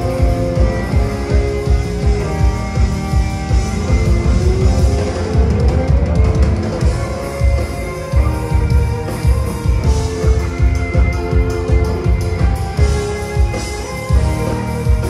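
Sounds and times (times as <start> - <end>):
bass: 0.0 - 15.0
drum kit beat: 0.0 - 15.0
electric guitar: 0.0 - 15.0.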